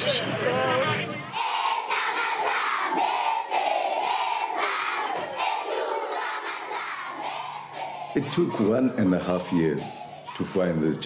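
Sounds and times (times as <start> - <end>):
group of voices chanting: 0.9 - 11.0.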